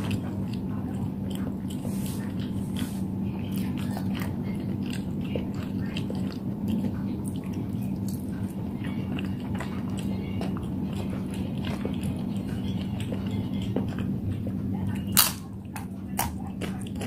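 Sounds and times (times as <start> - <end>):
chewing noodles: 0.0 - 17.0
steady low hum: 0.0 - 17.0.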